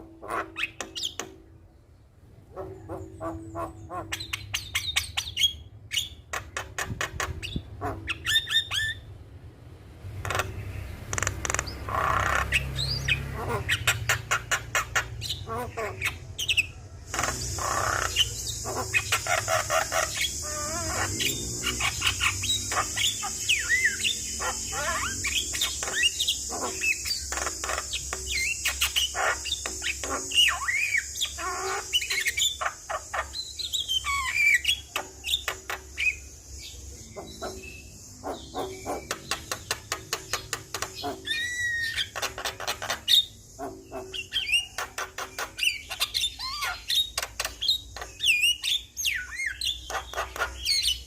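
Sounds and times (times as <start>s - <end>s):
myna bird singing: 0.0s - 9.2s, 10.1s - 51.0s.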